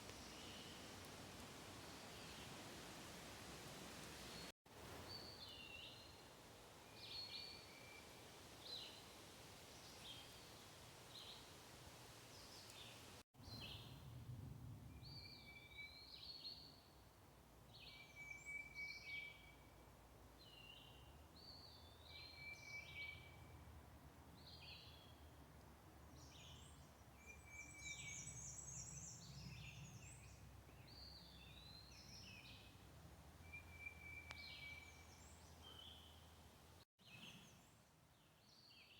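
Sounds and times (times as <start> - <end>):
songbird singing: 0.0 - 11.6, 12.2 - 14.0, 14.9 - 17.0, 17.7 - 19.8, 20.4 - 23.5, 24.4 - 25.3, 26.1 - 38.9
low rumble of wind: 0.0 - 18.2, 19.5 - 38.6.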